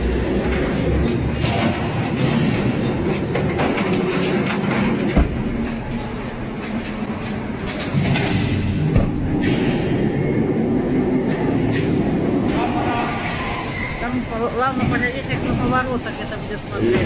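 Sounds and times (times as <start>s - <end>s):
mechanical rattling and clattering: 0.0s - 17.0s.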